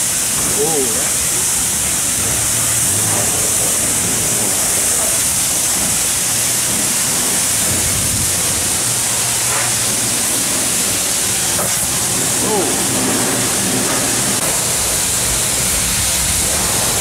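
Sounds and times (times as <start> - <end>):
pressure washer spray hissing: 0.0 - 17.0.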